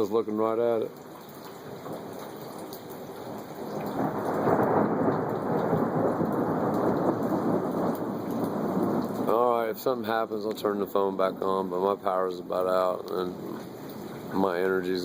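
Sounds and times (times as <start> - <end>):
heavy rain: 0.0 - 15.0
thunder rumbling: 1.7 - 15.0.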